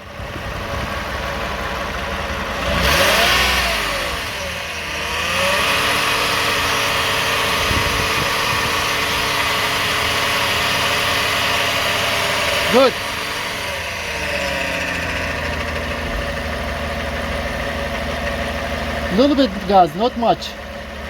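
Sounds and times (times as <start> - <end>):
car engine revving: 0.4 - 21.0
rattling buzz: 2.0 - 19.9.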